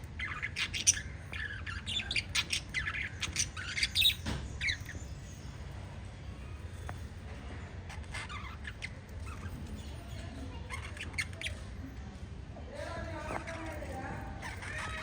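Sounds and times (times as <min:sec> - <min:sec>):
parrots chirping and squawking: 0:00.0 - 0:05.6, 0:06.4 - 0:12.0, 0:12.9 - 0:15.0.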